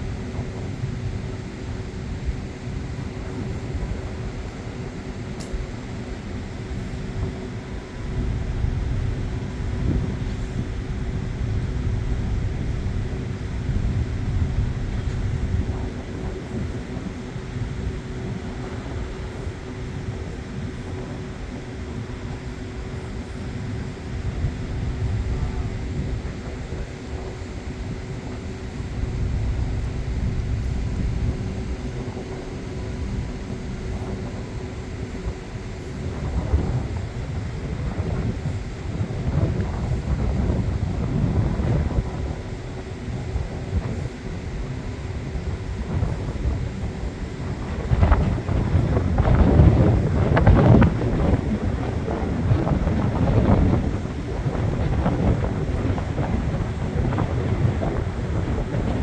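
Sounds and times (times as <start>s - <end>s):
droning hum: 0.0s - 59.0s
low engine rumble: 0.0s - 59.0s
wind buffeting microphone: 0.0s - 59.0s.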